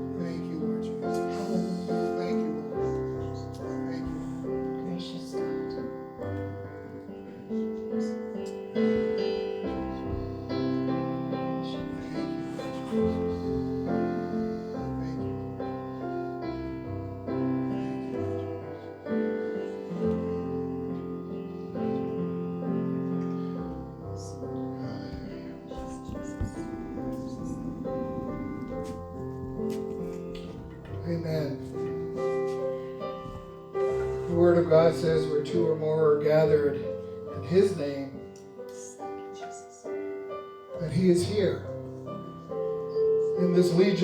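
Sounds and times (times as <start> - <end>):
soft piano music: 0.0 - 44.0.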